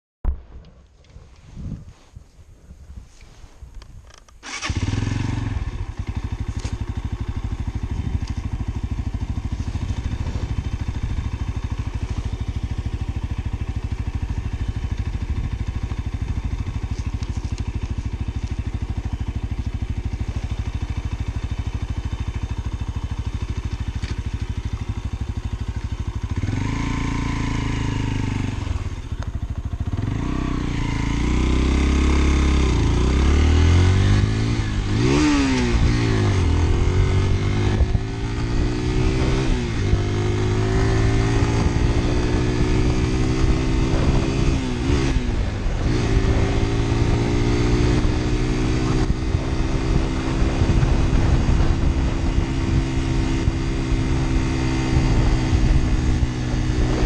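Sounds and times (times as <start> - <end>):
motorcycle engine idling: 4.4 - 57.0
motorcycle revving and accelerating: 4.4 - 57.0.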